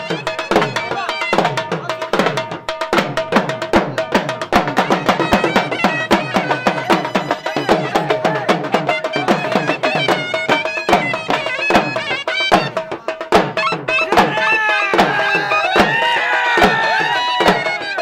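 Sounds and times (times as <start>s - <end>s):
drum beaten with sticks: 0.0s - 18.0s
shawm playing wavering melody: 0.0s - 18.0s.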